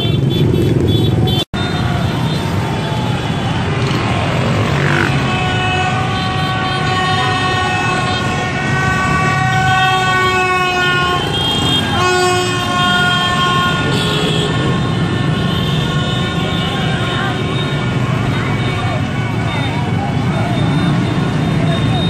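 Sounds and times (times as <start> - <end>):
horns blasting: 0.0 - 22.0
motorbike engines running: 0.0 - 22.0.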